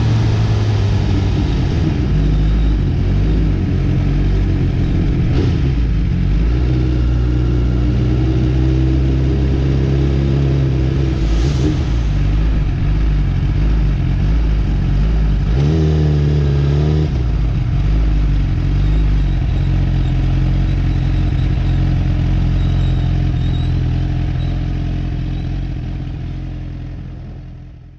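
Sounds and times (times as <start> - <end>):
motorcycle engine running: 0.0 - 11.5, 12.1 - 27.9.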